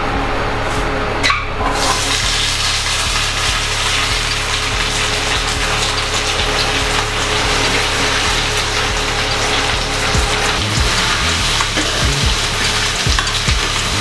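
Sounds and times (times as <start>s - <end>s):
vegetables sizzling in oil: 1.8s - 14.0s.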